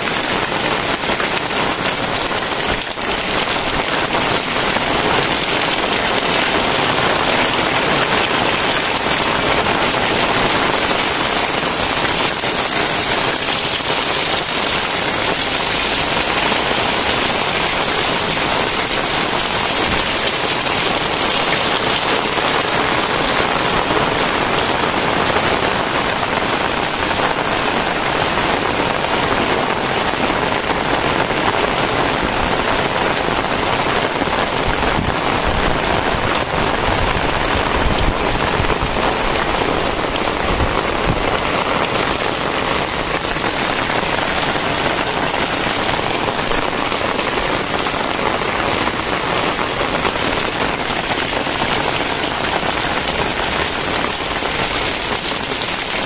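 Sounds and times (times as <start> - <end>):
very heavy rain: 0.0 - 56.0.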